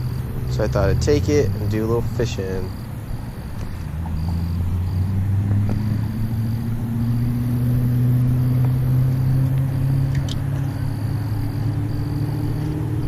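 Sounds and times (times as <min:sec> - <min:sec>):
insects chirping: 0:00.0 - 0:13.0
vehicle engine running: 0:00.0 - 0:13.0.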